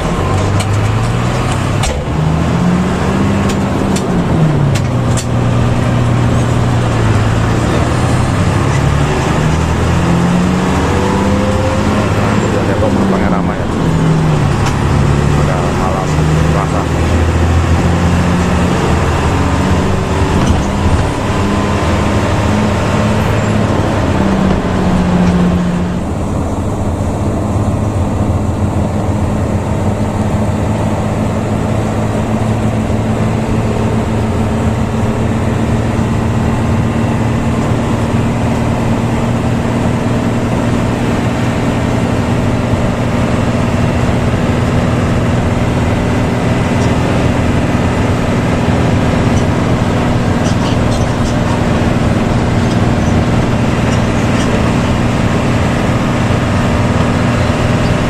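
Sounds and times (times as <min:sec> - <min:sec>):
bus engine droning: 0:00.0 - 0:58.0
road noise: 0:00.0 - 0:58.0.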